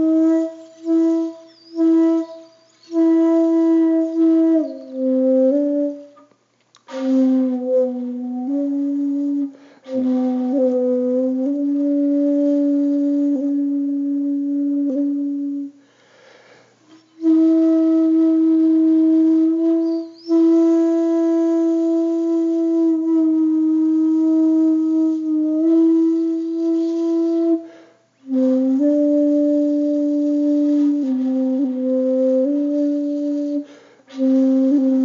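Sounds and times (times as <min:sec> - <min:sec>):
solo flute long low notes: 0:00.0 - 0:15.8, 0:16.9 - 0:35.0.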